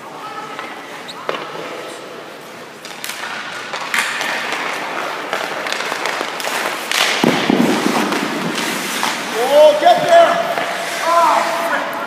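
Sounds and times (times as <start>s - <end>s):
skate blades scraping ice: 0.9s - 12.0s.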